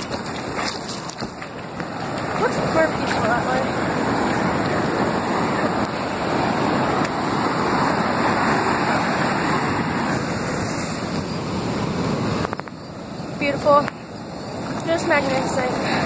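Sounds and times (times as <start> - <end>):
surf washing over sand: 0.0 - 16.0.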